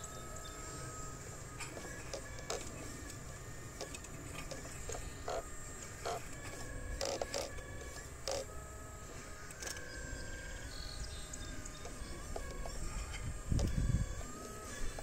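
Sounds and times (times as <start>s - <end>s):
small pump motor whine: 0.0s - 15.0s.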